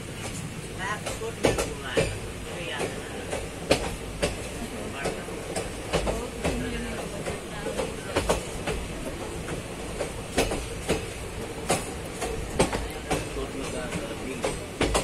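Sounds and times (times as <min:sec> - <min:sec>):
train rumbling on track: 0:00.0 - 0:15.0
wheels clicking on rails: 0:00.2 - 0:15.0.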